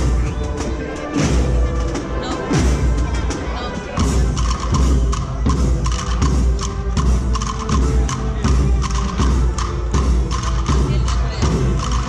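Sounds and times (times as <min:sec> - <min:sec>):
procession band music: 0:00.0 - 0:12.0.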